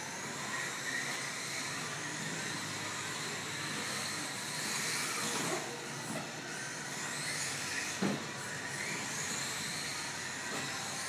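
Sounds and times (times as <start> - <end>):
toy car electric motors whining: 0.0 - 11.0.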